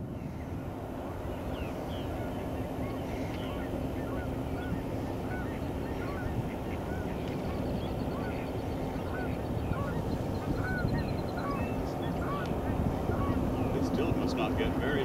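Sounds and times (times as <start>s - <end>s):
birds chirping and squawking: 0.0s - 15.0s
faint hum: 0.0s - 15.0s.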